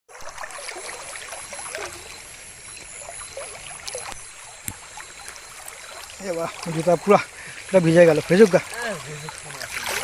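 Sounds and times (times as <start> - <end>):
insects trilling: 0.1 - 10.0
water splashing and trickling: 0.1 - 10.0.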